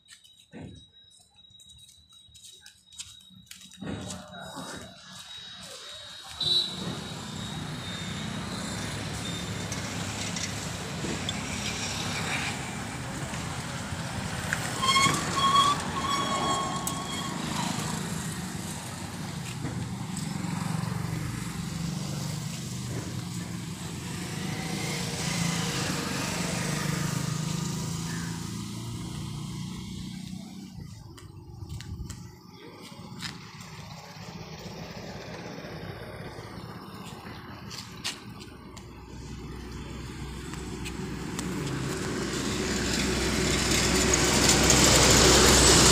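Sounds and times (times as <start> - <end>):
engine running: 6.8 - 45.9.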